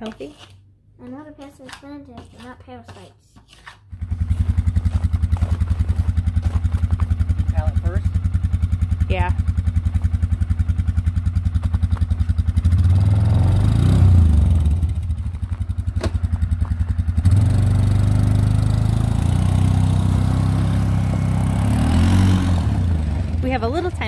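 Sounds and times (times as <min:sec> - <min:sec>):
atv engine: 0:03.9 - 0:24.0.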